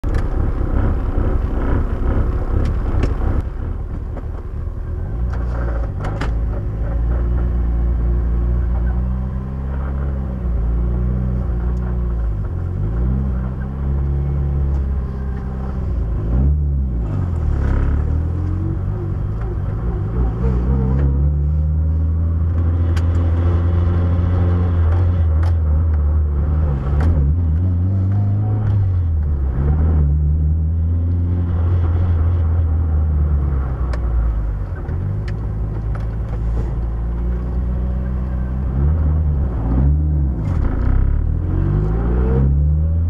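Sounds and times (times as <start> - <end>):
car engine shifting gears: 0.0 - 43.0
low rumble: 0.0 - 43.0.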